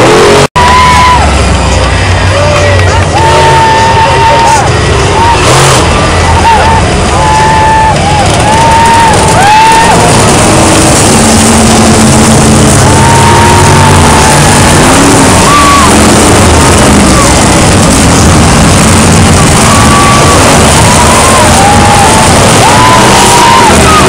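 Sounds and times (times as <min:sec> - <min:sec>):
monster truck engines roaring: 0:00.0 - 0:24.0.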